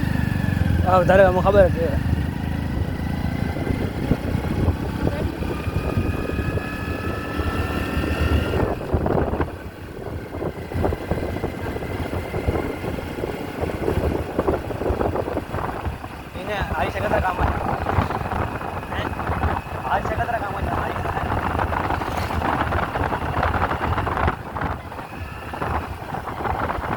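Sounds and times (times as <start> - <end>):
motorcycle engine running: 0.0 - 26.9
road and wind noise: 0.0 - 26.9.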